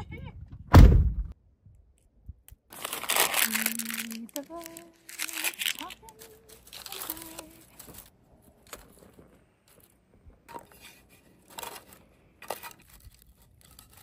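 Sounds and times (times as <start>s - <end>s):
kindling rustling and crackling: 2.7s - 14.0s.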